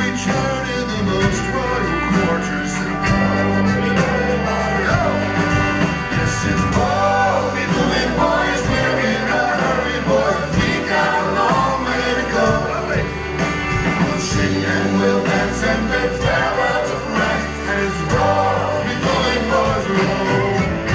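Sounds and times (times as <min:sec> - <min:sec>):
man singing: 0:00.0 - 0:13.2, 0:13.9 - 0:20.9
drums: 0:00.0 - 0:20.9
strummed acoustic guitar: 0:00.0 - 0:20.9.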